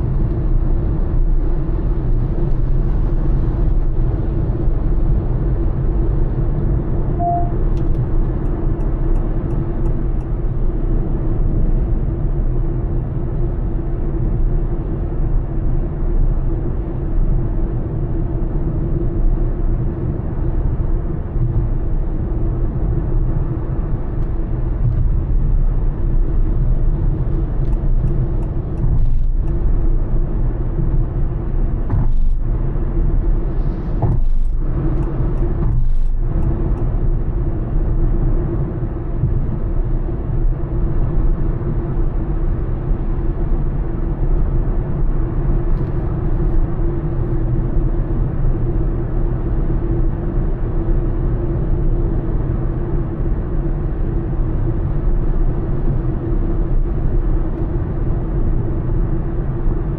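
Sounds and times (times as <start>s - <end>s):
car engine and tyre road noise: 0.0s - 59.9s.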